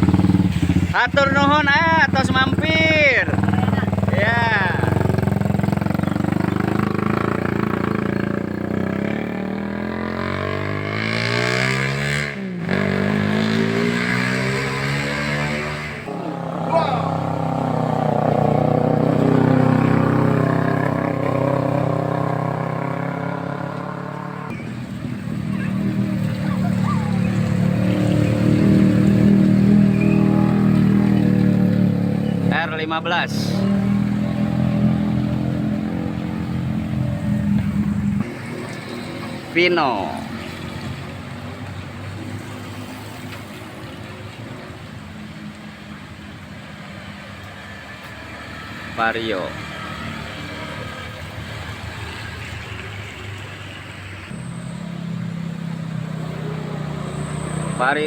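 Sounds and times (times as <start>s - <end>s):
vehicle engines climbing a hill: 0.0s - 58.0s.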